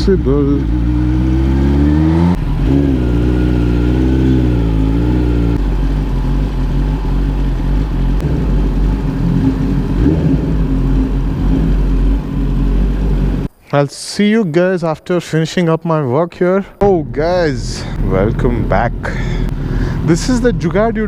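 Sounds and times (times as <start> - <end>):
motorcycle engine at low revs: 0.0 - 13.5, 16.9 - 21.0.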